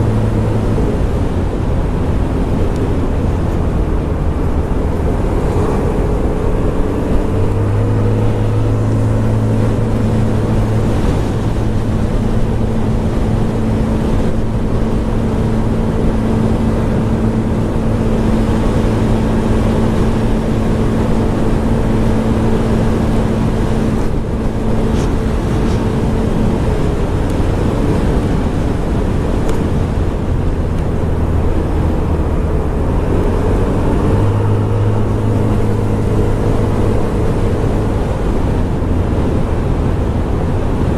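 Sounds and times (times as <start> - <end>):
low rumble: 0.0 - 40.9
scooter engine running: 0.0 - 40.9.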